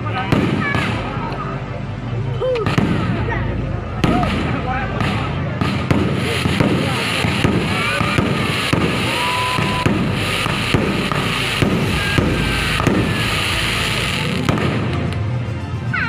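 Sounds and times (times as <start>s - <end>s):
fireworks bangs: 0.0s - 1.4s, 2.6s - 15.5s
fireworks crackling: 0.0s - 16.0s.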